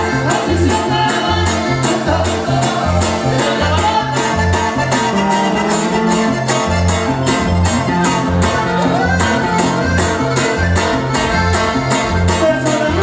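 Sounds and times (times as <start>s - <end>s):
button accordion: 0.0s - 13.0s
electric bass: 0.0s - 13.0s
small guitar: 0.0s - 13.0s.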